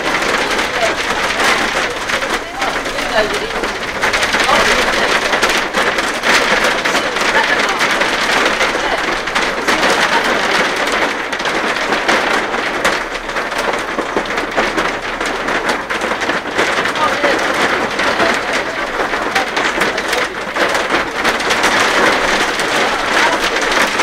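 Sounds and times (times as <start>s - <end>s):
hail and heavy rain: 0.0s - 24.0s
hailstones ticking: 0.0s - 24.0s.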